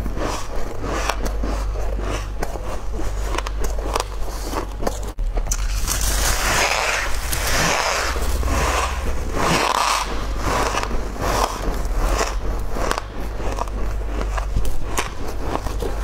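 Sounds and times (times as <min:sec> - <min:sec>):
person chewing food: 0:00.0 - 0:16.0
steady low hum: 0:00.0 - 0:16.0.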